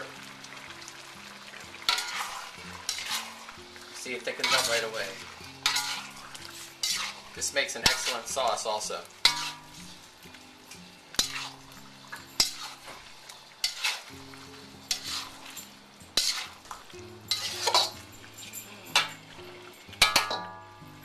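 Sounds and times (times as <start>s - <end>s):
light sizzle: 0.0s - 21.0s
utensil scraping a wok: 1.5s - 20.6s.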